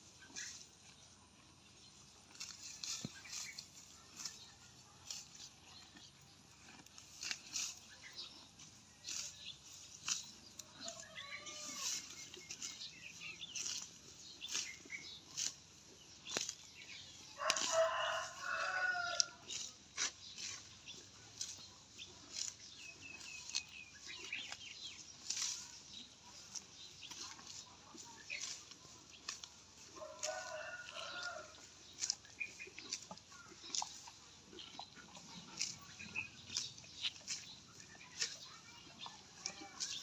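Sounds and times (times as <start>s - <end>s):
cow tearing grass: 0.0s - 40.0s
birds calling: 2.3s - 29.4s, 30.0s - 40.0s.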